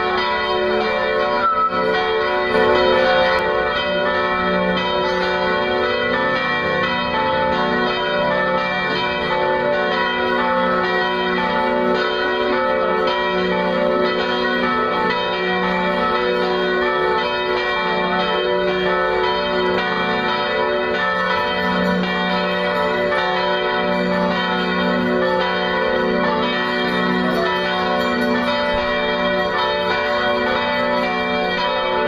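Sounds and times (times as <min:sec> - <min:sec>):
church bells pealing: 0:00.0 - 0:32.0.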